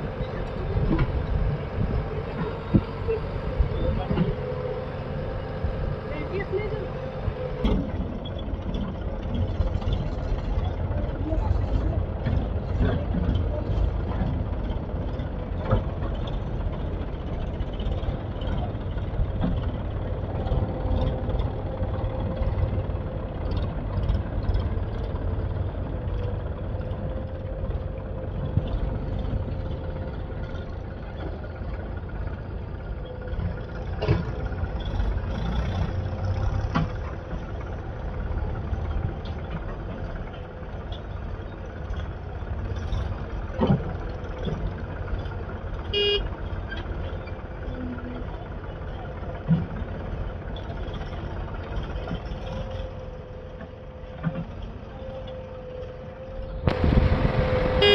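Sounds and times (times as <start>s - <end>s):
diesel engine rumbling: 0.0s - 57.9s.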